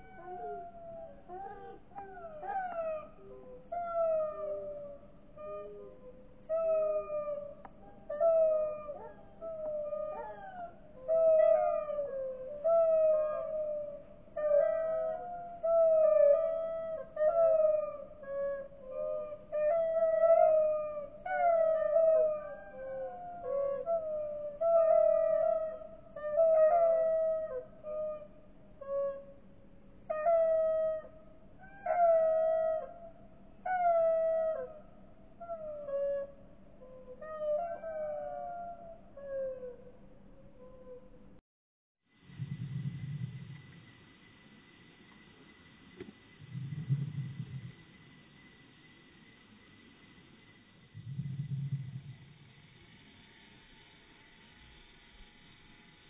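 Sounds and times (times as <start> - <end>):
slowed down bird calls: 0.0 - 41.2, 42.2 - 56.0.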